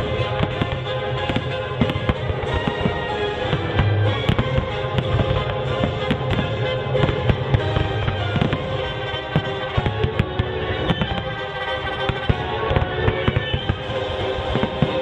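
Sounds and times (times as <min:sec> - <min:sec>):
fireworks bangs: 0:00.0 - 0:15.0
loud music: 0:00.0 - 0:15.0.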